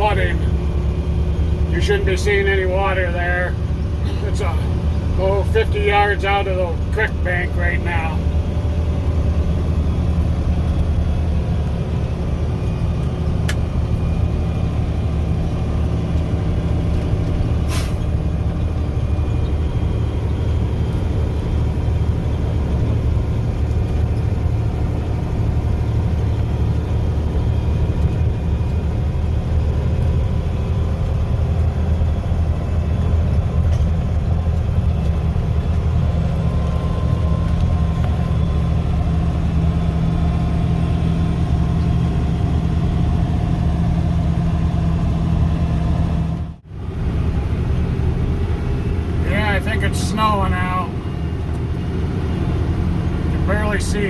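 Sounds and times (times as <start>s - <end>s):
truck engine from inside cab: 0.0s - 54.0s.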